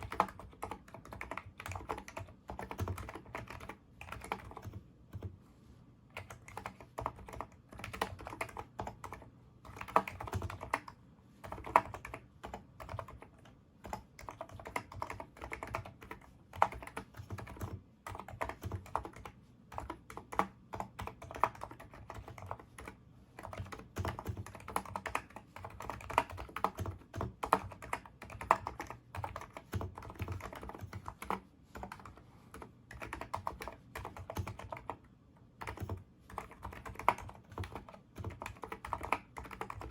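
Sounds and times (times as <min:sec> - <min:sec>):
keyboard typing: 0:00.0 - 0:05.4, 0:06.1 - 0:39.9.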